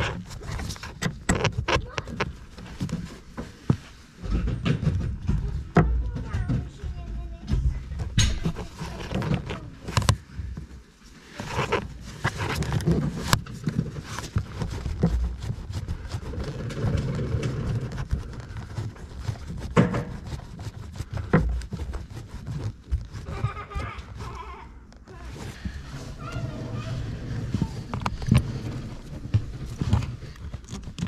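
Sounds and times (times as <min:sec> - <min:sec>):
metal and plastic clicks and knocks: 0:00.0 - 0:10.7, 0:11.4 - 0:23.8, 0:27.3 - 0:31.0
gloves rustling and rubbing: 0:00.0 - 0:31.0.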